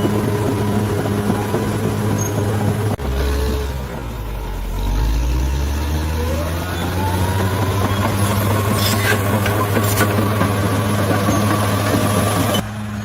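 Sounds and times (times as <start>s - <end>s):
bulldozer diesel engine lugging: 0.0s - 13.0s.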